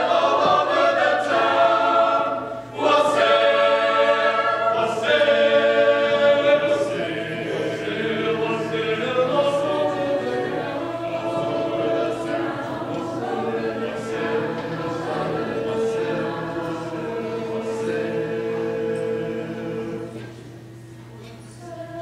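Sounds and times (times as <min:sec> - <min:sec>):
mixed choir singing unaccompanied: 0:00.0 - 0:22.0.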